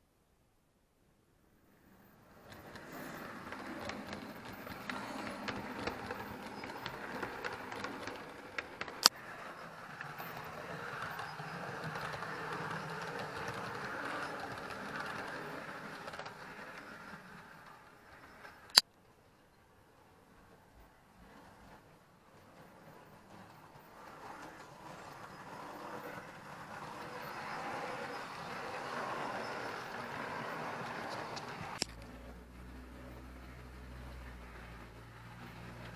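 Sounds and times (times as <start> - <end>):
model train motor whir: 2.2 - 18.8, 22.6 - 35.9.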